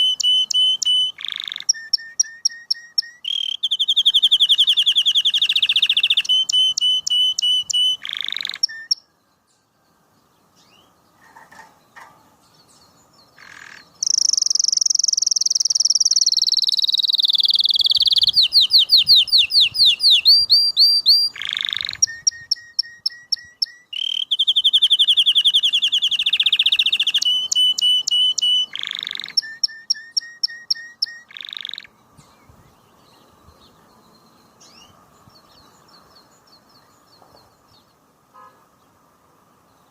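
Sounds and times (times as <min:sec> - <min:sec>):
canary singing trills: 0:00.0 - 0:38.5.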